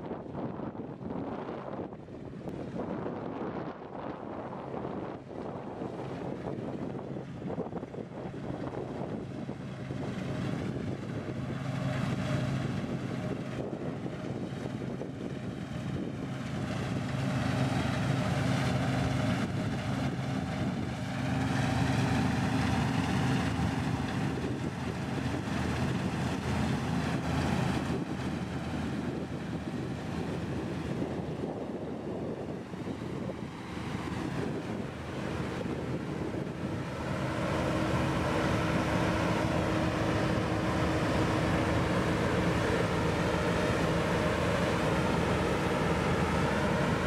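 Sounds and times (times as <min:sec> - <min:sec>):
combine harvester engine hum: 0:00.0 - 0:47.0
wind buffeting microphone: 0:00.0 - 0:47.0.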